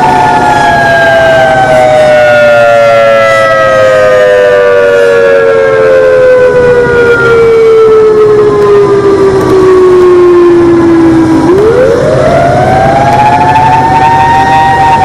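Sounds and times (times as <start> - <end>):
warning siren gliding down: 0.0 - 15.0.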